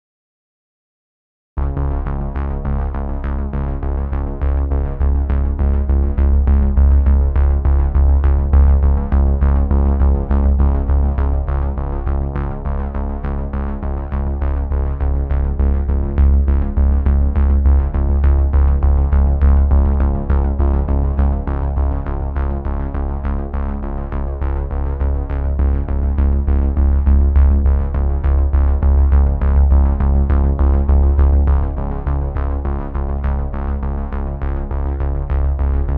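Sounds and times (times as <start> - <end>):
synthesizer music with deep bass: 1.6 - 35.9.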